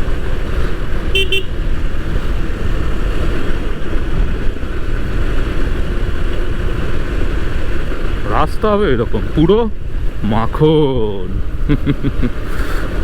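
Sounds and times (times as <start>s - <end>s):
motorcycle engine drone: 0.0s - 13.0s
wind rushing over microphone: 0.0s - 13.0s.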